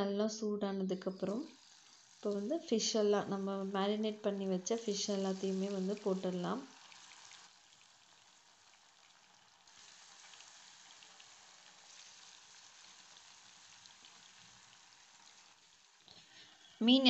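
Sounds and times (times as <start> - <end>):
oil sizzling: 1.0 - 17.0.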